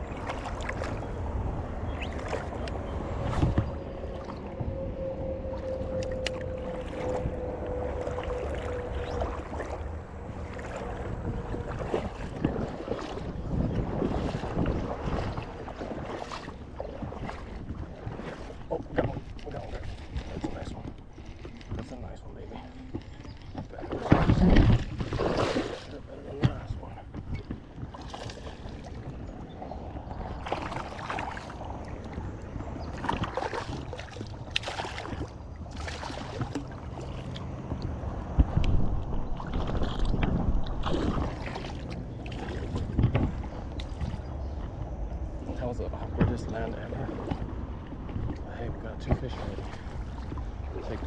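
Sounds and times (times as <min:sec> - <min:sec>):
water splashing around wading person: 0:00.0 - 0:51.0
wind buffeting microphone: 0:00.0 - 0:51.0.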